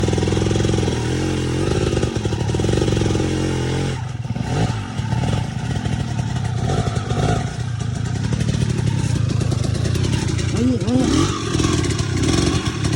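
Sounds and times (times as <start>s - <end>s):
dirt bike engine revving: 0.0s - 12.9s.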